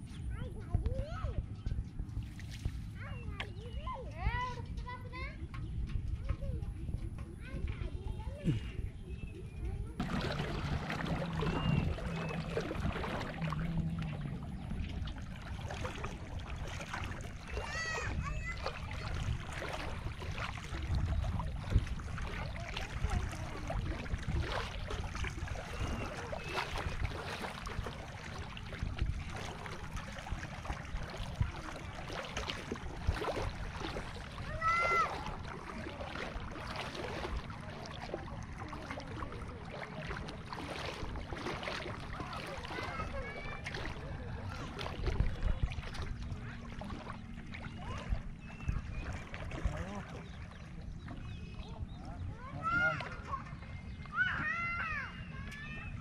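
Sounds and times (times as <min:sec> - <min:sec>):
steady low rumble: 0:00.0 - 0:54.1
water sloshing around wading person: 0:00.0 - 0:56.0
small splashes: 0:02.0 - 0:05.6, 0:09.7 - 0:56.0.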